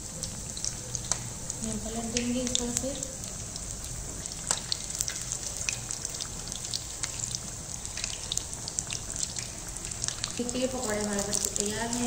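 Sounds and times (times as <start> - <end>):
food deep-frying in oil: 0.0 - 12.0
oil crackles and pops: 0.0 - 12.0.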